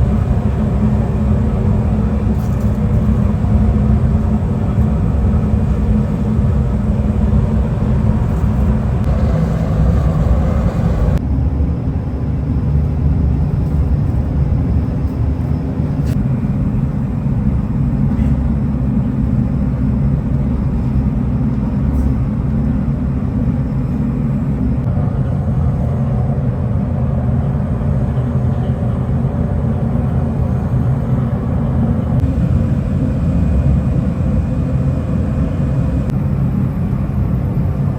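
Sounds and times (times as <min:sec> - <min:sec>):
heavy factory machinery rumbling: 0:00.0 - 0:37.9.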